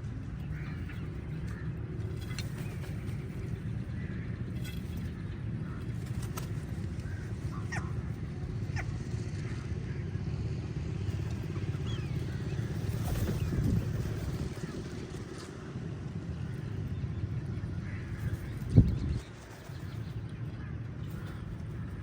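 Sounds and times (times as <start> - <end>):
steady low rumble: 0.0 - 22.0
falling bird calls: 0.4 - 9.9, 11.0 - 22.0.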